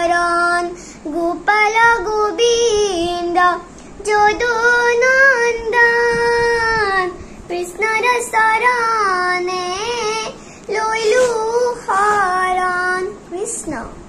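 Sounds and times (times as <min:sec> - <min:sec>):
girl singing a hymn unaccompanied: 0:00.0 - 0:14.0.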